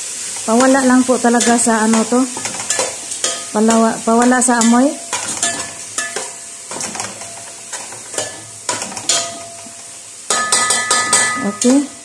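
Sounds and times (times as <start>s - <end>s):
food sizzling faintly: 0.0s - 12.0s
spoon clinking against pot: 1.4s - 12.0s.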